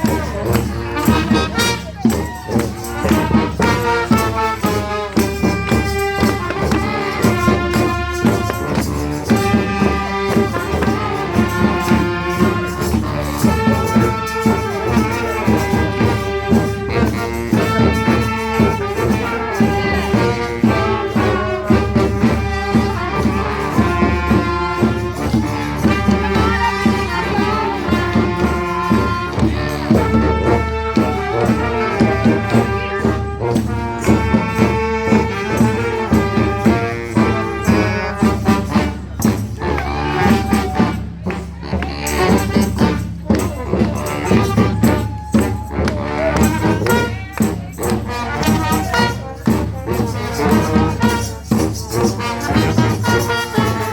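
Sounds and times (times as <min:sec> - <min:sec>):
brass horns playing held notes: 0:00.0 - 0:53.9
steady percussion beat: 0:00.0 - 0:53.9.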